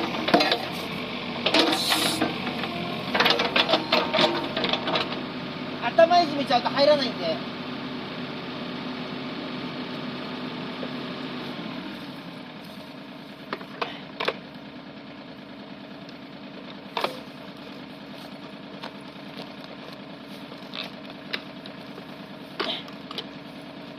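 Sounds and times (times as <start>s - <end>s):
machine motor running: 0.0s - 23.9s.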